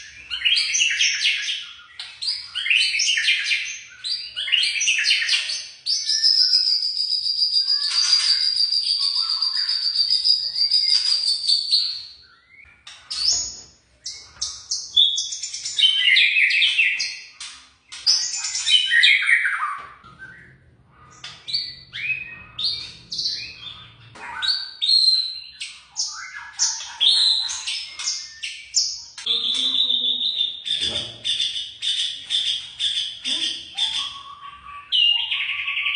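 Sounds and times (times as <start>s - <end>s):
bird singing whistled phrases: 0.2s - 13.5s, 18.0s - 30.9s, 33.2s - 35.9s.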